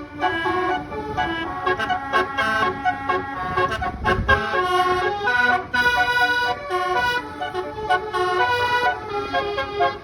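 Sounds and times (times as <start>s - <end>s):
bus engine rumble: 0.0s - 10.0s
bus musical horn melody: 0.0s - 10.0s.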